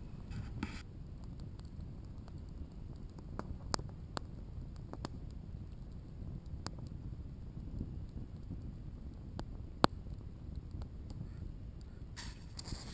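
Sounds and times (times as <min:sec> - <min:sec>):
campfire crackling: 0:00.0 - 0:12.9
wind rumble on microphone: 0:00.0 - 0:12.9.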